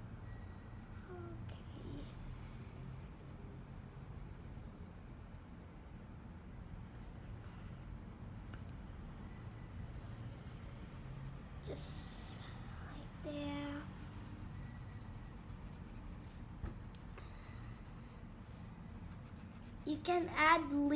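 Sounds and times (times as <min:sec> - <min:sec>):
colour pencil scratching on paper: 0:00.0 - 0:16.6, 0:17.5 - 0:20.9
steady low hum: 0:00.0 - 0:20.9.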